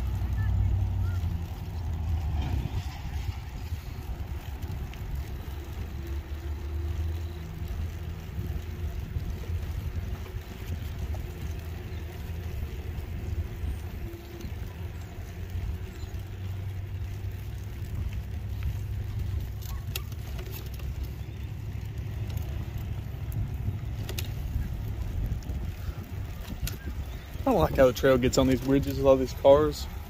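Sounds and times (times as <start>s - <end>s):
tyre noise on pavement: 0.0s - 30.0s
wind rumbling on microphone: 0.0s - 30.0s.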